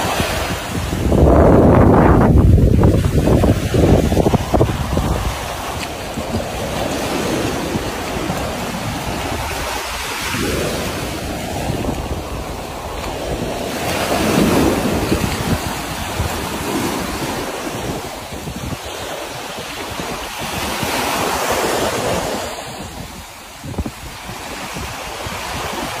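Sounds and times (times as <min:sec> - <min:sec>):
small waves washing on sand: 0:00.0 - 0:26.0
wind buffeting microphone: 0:00.0 - 0:26.0.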